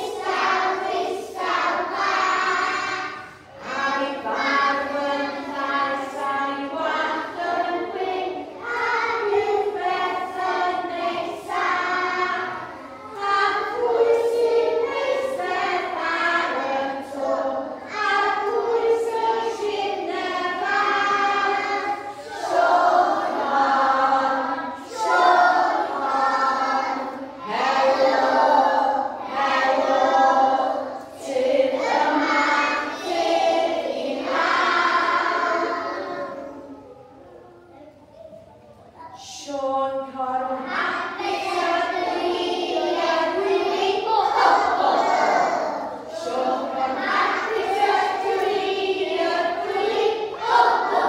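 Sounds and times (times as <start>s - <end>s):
children singing together: 0.0s - 51.0s.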